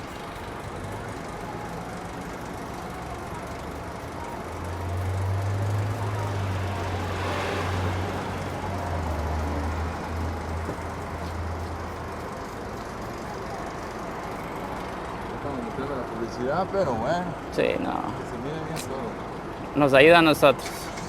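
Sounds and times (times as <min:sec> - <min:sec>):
passing road noise: 0:00.0 - 0:21.0
road traffic: 0:00.0 - 0:21.0
vehicle engine drone: 0:00.0 - 0:21.0.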